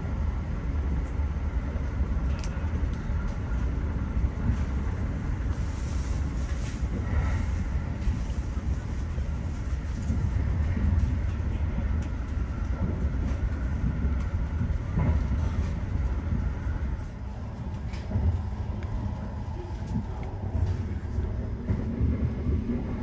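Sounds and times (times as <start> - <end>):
train rumble inside cabin: 0.0 - 23.0.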